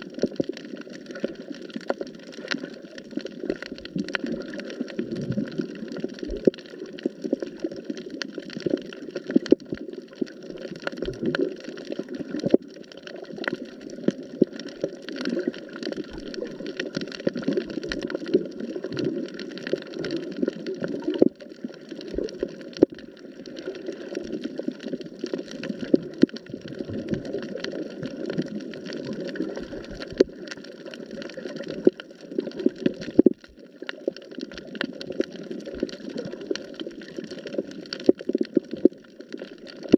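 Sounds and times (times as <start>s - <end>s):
muffled underwater rush: 0.0s - 39.9s
underwater clicks and crackles: 0.0s - 39.9s.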